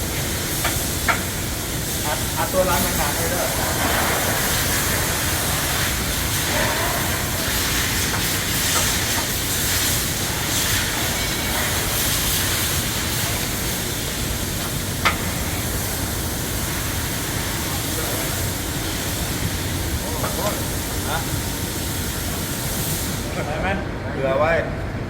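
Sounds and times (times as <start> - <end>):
compressed air hissing: 0.0 - 23.4.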